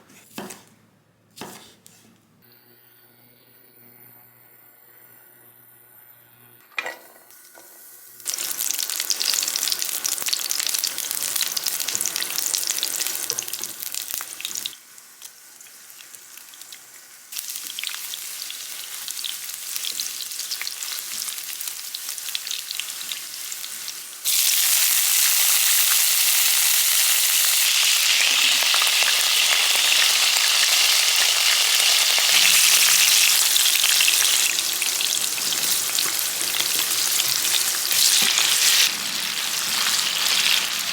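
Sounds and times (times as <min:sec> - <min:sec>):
food sizzling in a pan: 0:06.9 - 0:40.9.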